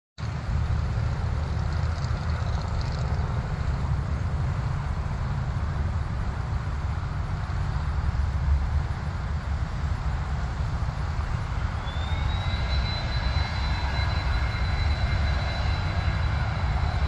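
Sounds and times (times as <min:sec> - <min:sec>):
faint high whine: 0:00.2 - 0:17.0
jet engines rumbling: 0:00.4 - 0:17.0.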